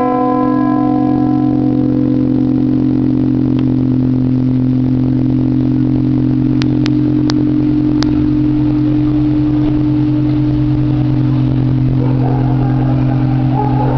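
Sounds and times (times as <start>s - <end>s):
church bells humming: 0.0s - 13.9s.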